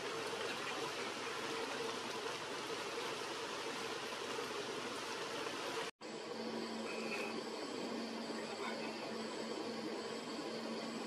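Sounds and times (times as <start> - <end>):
rushing outdoor background noise: 0.0 - 11.0.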